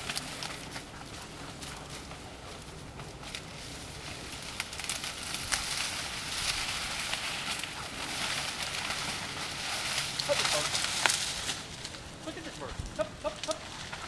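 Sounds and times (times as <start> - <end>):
dry brush rustling underfoot: 0.0 - 14.0
dry stems snapping: 0.0 - 14.0.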